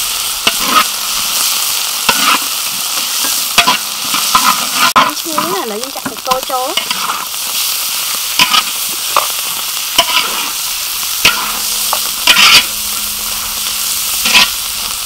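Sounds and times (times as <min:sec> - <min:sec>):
meat sizzling in a wok: 0:00.0 - 0:15.0
metal ladle scraping a wok: 0:00.0 - 0:15.0.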